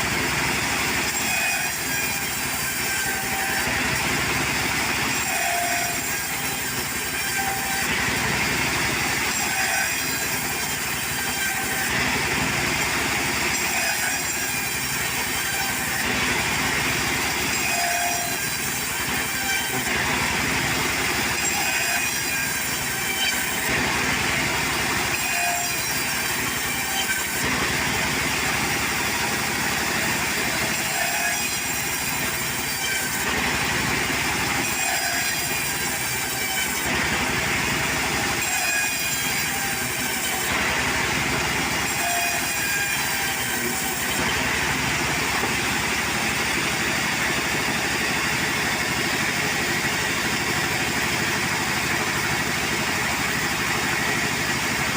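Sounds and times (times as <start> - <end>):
sawmill cutting a log: 0.0 - 54.9.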